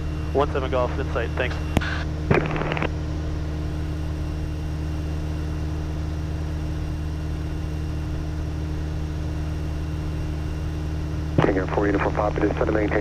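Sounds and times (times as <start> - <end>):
airplane engine and propeller droning: 0.0 - 13.0.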